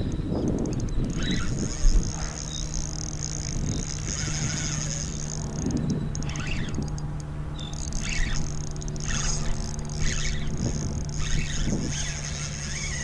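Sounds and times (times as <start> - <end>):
fishing reel drag buzzing: 0.0 - 13.0
steady low hum: 0.0 - 13.0.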